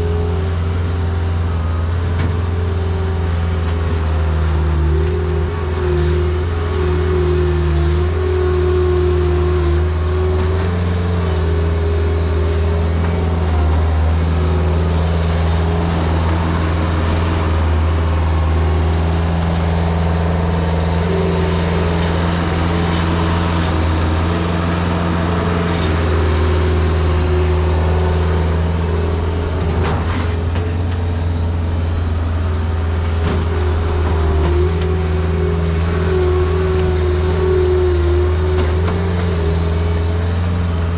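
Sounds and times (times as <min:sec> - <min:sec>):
diesel engine running hard: 0:00.0 - 0:40.9.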